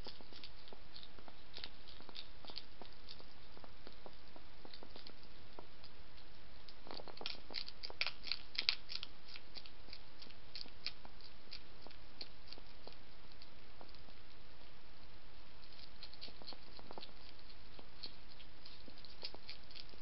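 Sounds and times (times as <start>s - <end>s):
hedgehog crunching food: 0.0s - 20.0s.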